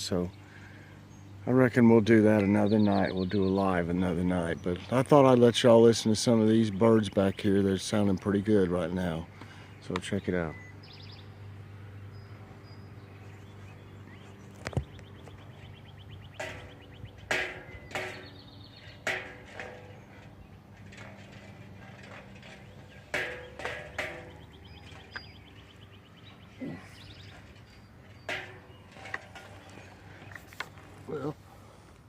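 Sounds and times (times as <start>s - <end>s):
songbirds chirping and trilling: 0.0s - 32.0s
steady low hum: 0.0s - 32.0s.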